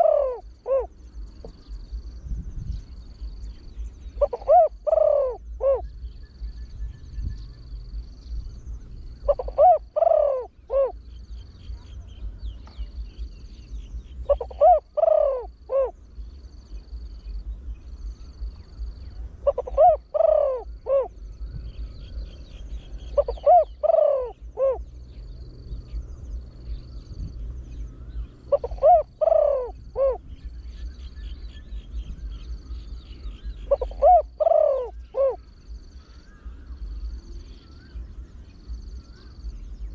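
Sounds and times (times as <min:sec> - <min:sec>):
dove cooing: 0:00.0 - 0:02.0, 0:03.2 - 0:06.6, 0:09.0 - 0:17.3, 0:18.0 - 0:39.9
faint high chirping: 0:00.0 - 0:39.9.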